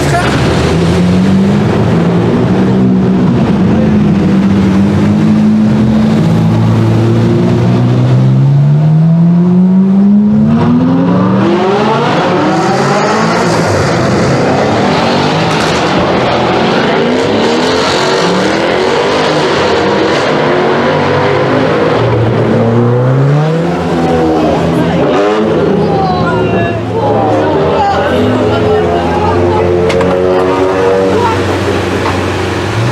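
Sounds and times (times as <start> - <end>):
car engine accelerating hard: 0.0 - 32.9.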